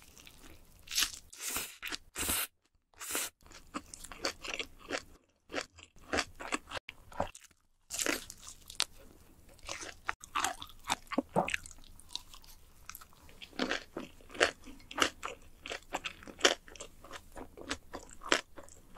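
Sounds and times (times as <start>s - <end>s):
chewing crunchy food: 3.4s - 18.9s.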